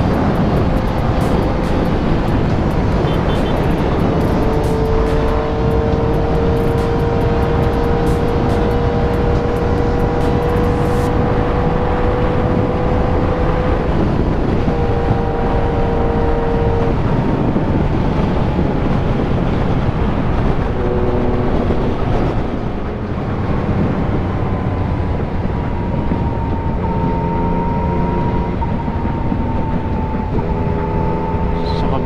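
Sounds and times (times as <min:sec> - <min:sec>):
motorcycle engine cruising: 0:00.0 - 0:32.0
wind rush on microphone: 0:00.0 - 0:32.0.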